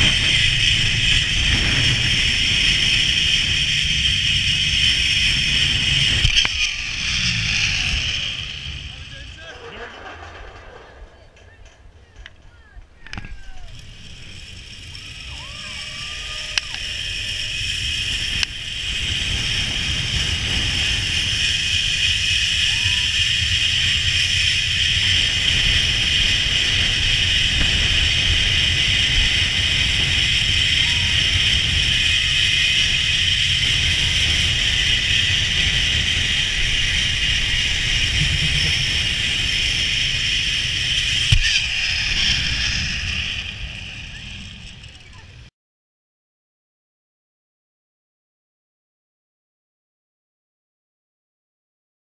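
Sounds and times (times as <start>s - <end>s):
zip-line trolley whirring hiss: 0.0s - 10.7s, 13.1s - 45.5s
wind rushing over microphone: 0.0s - 45.5s.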